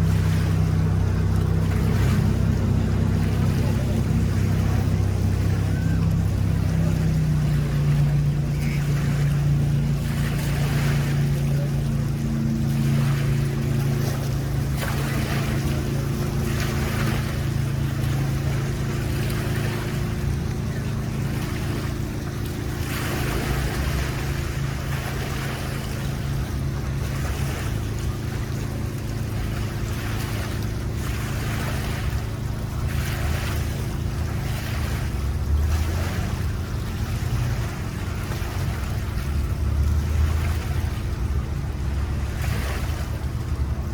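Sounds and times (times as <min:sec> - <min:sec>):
motorboat engine running: 0:00.0 - 0:43.9
water rushing past hull: 0:00.0 - 0:43.9.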